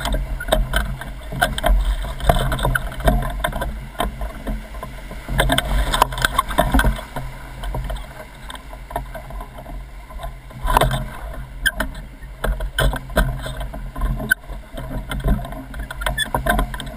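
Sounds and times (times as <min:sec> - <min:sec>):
whitewater rapids rushing: 0:00.0 - 0:16.9.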